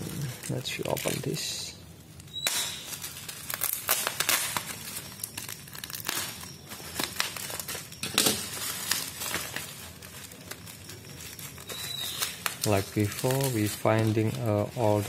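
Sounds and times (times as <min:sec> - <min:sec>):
bubble wrap crinkling and rustling: 0:00.0 - 0:15.0.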